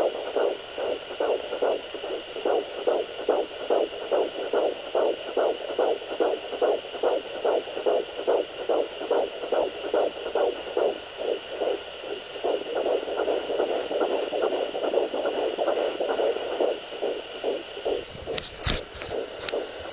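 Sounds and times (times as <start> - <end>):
fetal heartbeat whooshing pulse: 0.0 - 19.9.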